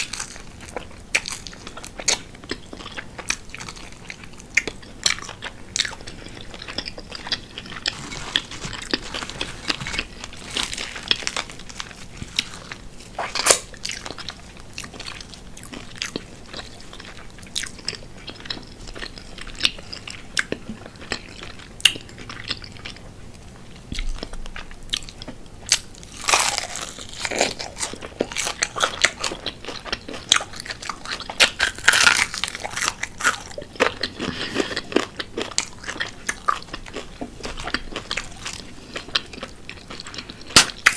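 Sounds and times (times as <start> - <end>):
crunchy chewing of fried chicken: 0.0 - 40.9.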